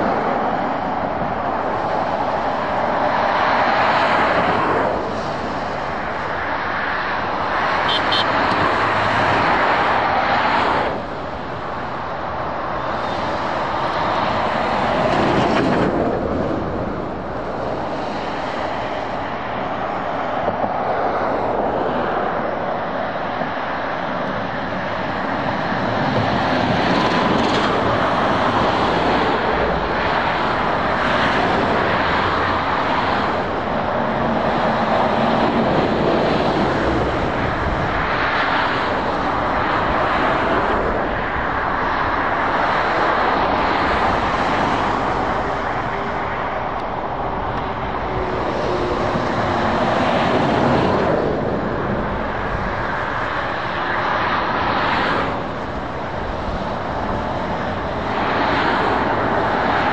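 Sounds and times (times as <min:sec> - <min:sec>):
lorries and cars passing: 0:00.0 - 0:59.9.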